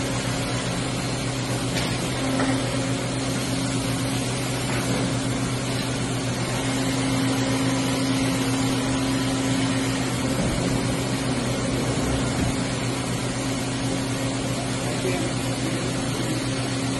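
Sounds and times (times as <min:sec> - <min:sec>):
machine hum: 0:00.0 - 0:16.9.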